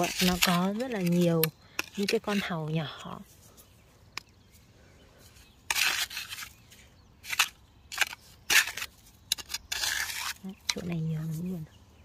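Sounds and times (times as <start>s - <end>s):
trowel scraping through mud: 0.0s - 3.4s, 5.3s - 11.6s.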